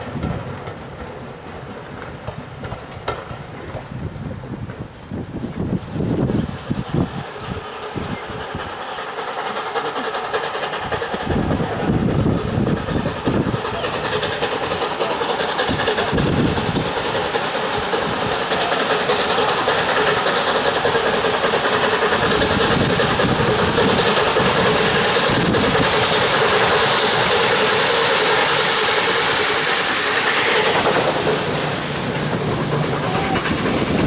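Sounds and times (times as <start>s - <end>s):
steam train approaching: 0.0s - 34.0s.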